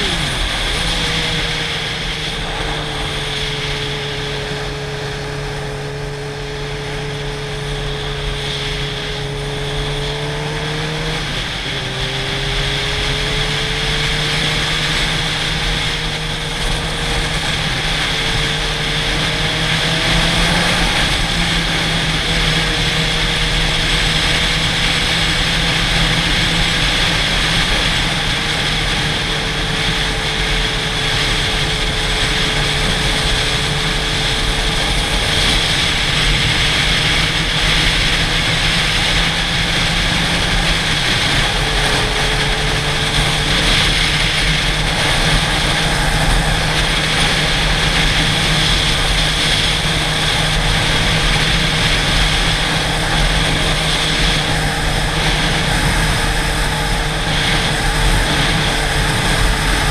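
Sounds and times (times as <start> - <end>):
heavy wind rush: 0.0 - 59.9
motorcycle engines cruising: 0.0 - 59.9.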